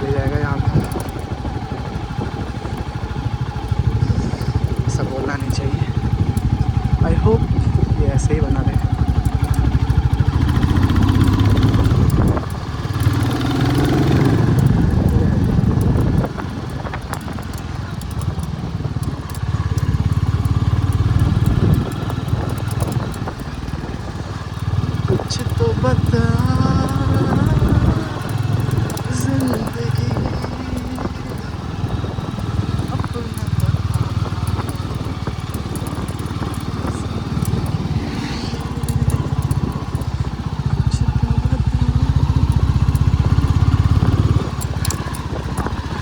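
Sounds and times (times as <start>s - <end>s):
motorcycle engine thumping: 0.0s - 46.0s.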